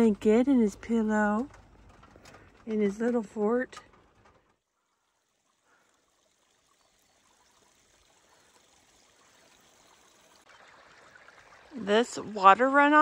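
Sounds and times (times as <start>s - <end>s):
faint running water: 0.0s - 13.0s.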